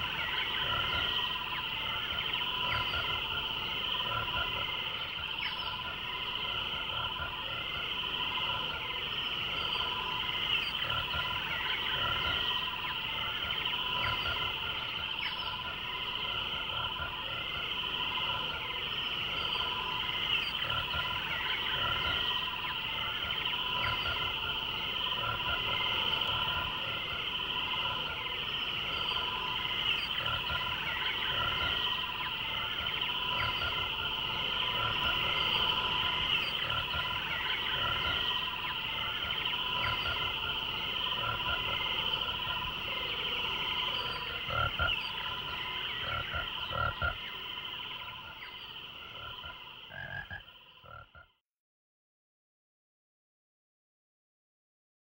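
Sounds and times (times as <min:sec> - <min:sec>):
chorus of chirping animals: 0:00.0 - 0:51.4.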